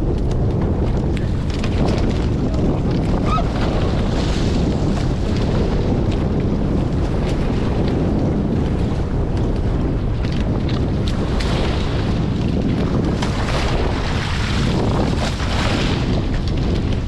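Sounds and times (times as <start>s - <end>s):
water rushing along hulls: 0.0s - 17.0s
wind buffeting microphone: 0.0s - 17.0s
water splashes: 1.1s - 17.0s.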